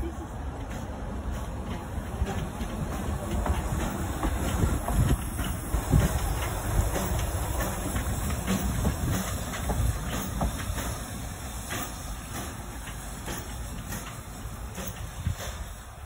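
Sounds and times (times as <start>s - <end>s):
steam locomotive wheels clattering: 0.0s - 16.0s
steam escaping: 0.1s - 16.0s.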